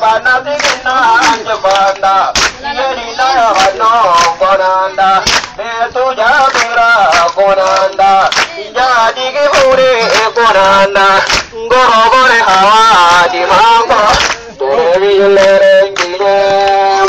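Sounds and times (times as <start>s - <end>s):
man singing through megaphone: 0.0s - 17.0s.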